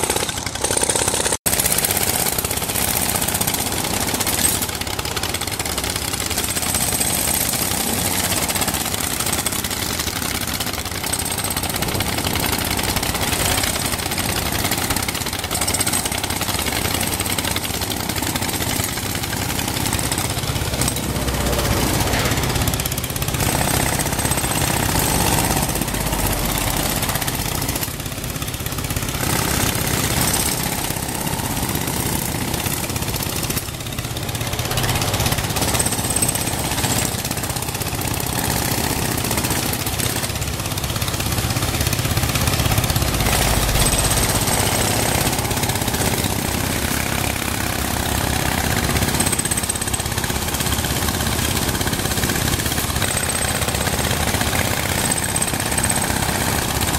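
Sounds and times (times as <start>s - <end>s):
pneumatic breaker hammering asphalt: 0.0s - 56.9s.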